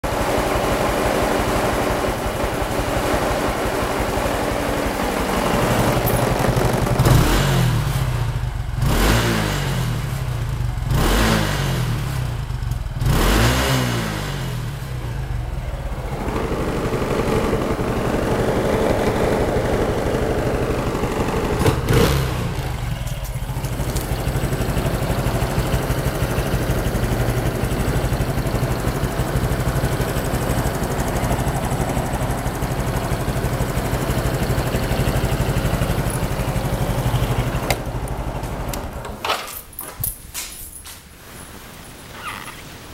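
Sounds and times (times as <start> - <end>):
motorcycle engine idling and revving: 0.0 - 39.5.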